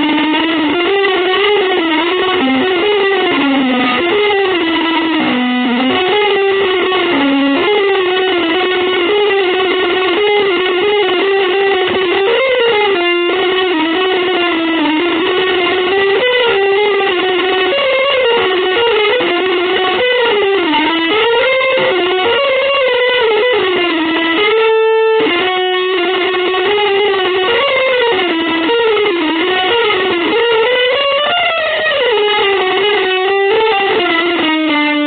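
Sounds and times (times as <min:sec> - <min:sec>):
electric guitar bending notes: 0:00.0 - 0:35.0.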